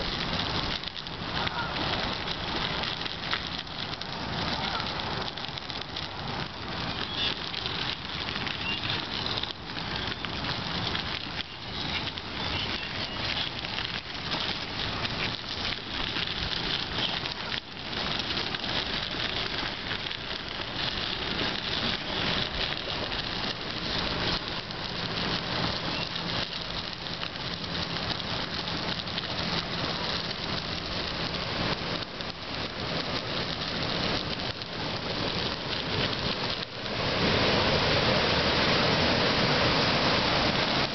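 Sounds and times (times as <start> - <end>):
bicycle tyres on gravel: 0.0 - 40.9.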